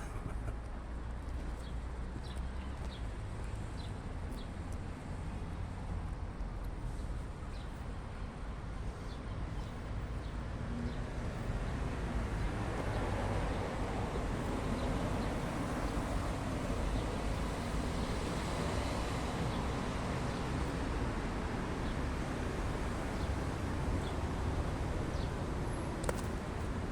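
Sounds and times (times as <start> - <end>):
outdoor background noise: 0.0 - 26.9.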